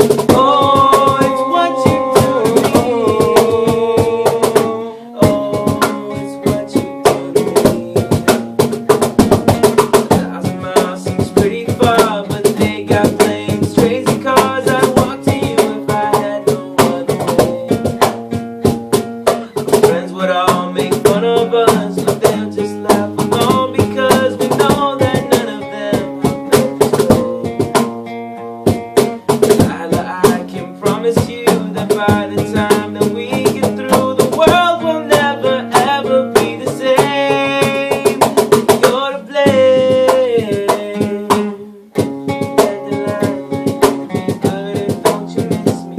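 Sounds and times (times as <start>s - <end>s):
guitar playing: 0.0s - 45.9s
steady drum beat: 0.0s - 45.9s.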